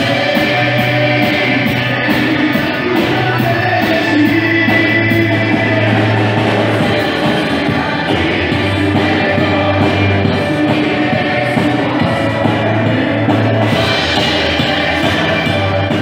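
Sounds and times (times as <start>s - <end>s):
bass line: 0.0s - 16.0s
drum kit: 0.0s - 16.0s
man singing lead: 0.0s - 16.0s
women backing singers: 0.0s - 16.0s.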